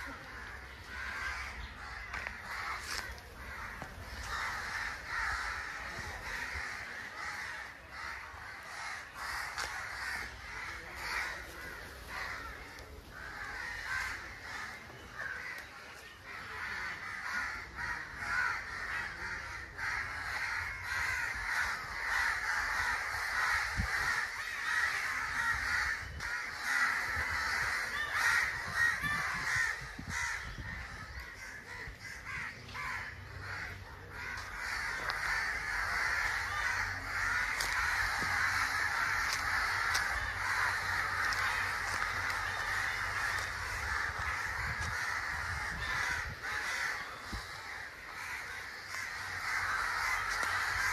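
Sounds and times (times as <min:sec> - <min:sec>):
crows cawing: 0:00.0 - 0:50.9.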